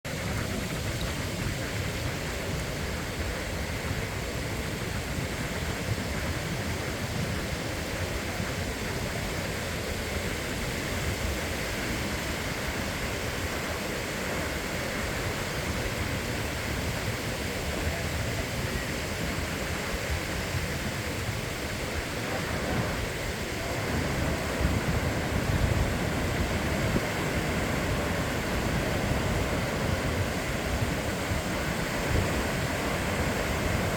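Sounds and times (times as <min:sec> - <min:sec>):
surf washing on beach: 0:00.1 - 0:33.9.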